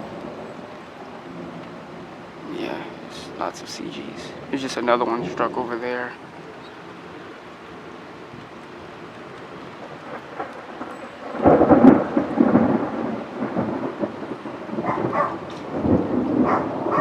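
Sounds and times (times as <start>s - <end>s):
thunder clap and rumble: 0.0s - 6.6s, 8.0s - 17.0s
steady rain: 0.0s - 17.0s.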